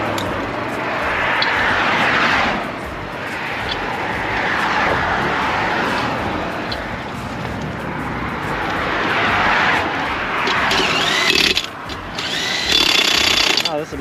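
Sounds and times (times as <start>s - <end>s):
highway traffic rushing past: 0.0s - 14.0s.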